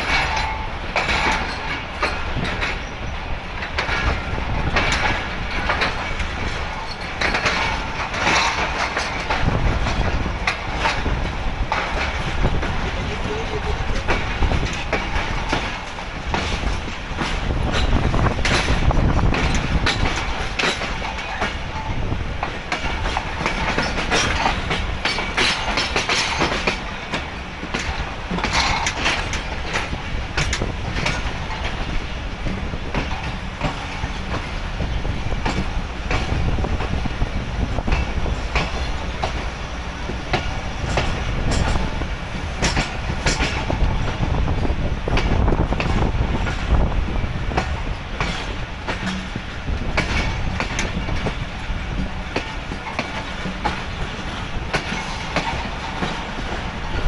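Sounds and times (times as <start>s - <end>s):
low train rumble: 0.0s - 57.0s
train wheels clattering over rail joints: 0.0s - 57.0s.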